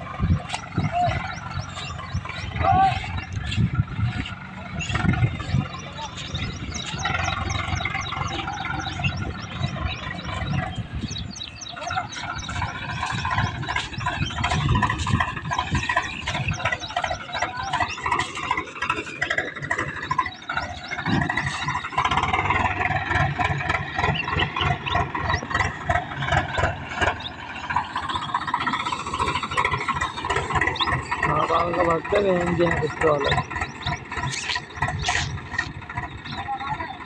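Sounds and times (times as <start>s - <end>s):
tractor diesel engine revving: 0.0s - 37.0s.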